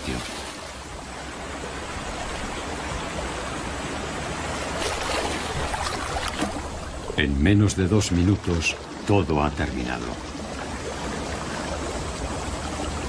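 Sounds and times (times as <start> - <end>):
river water churning and splashing: 0.0 - 13.0.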